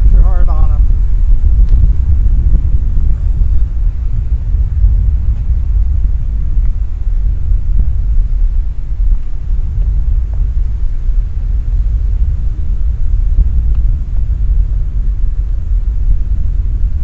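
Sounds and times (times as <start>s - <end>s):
ocean surf rumbling: 0.0s - 17.0s
wind: 0.0s - 17.0s.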